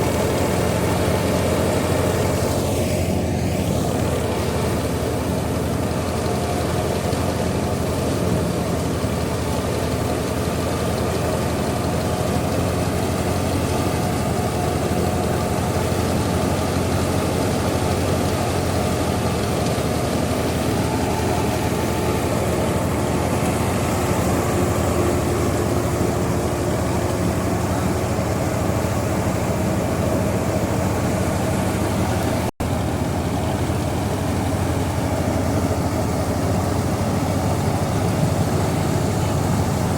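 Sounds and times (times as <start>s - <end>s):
wheat thresher running: 0.0s - 39.9s.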